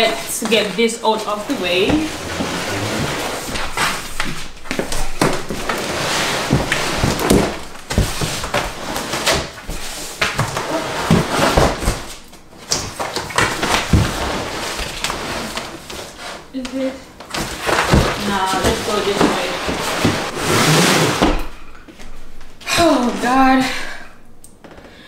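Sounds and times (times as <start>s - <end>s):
cardboard box scraping on floor: 0.0s - 12.2s, 13.6s - 21.6s.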